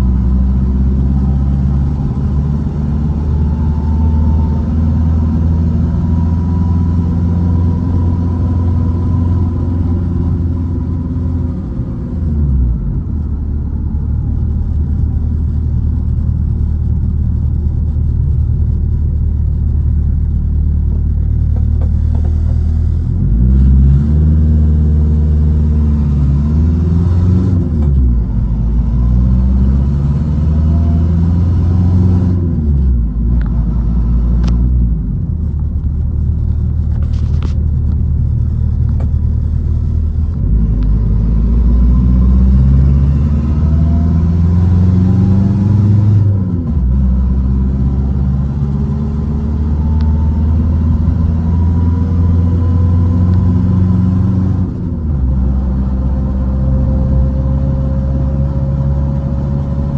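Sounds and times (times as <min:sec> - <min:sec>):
car engine while driving: 0:00.0 - 0:59.9.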